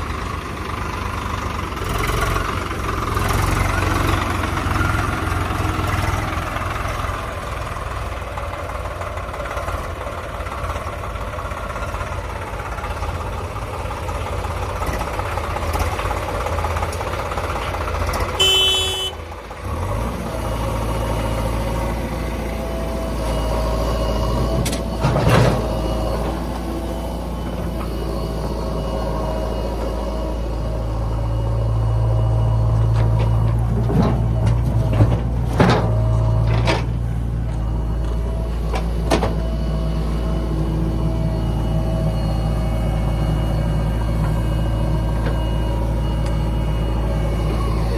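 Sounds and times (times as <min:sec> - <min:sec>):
tractor engine rumbling: 0:00.0 - 0:47.9.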